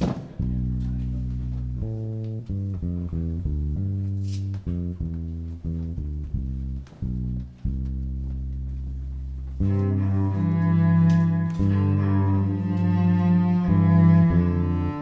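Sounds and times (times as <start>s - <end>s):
bowed cello: 0.3s - 15.0s
instruments playing held chords: 0.4s - 15.0s.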